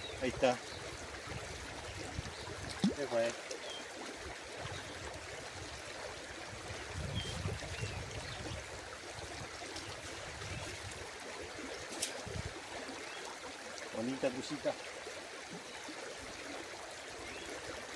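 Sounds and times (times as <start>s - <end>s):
flowing water rushing: 0.0s - 17.9s.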